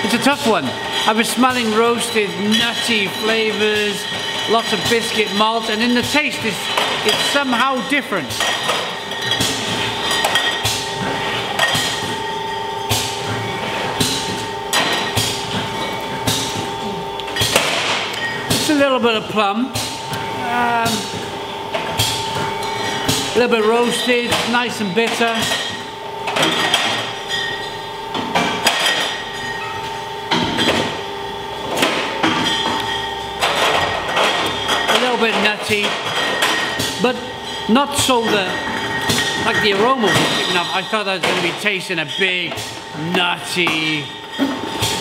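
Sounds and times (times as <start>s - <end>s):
glass bottles clinking: 0.0s - 12.4s, 13.0s - 18.9s, 20.2s - 45.0s
steady machine hum: 0.0s - 45.0s.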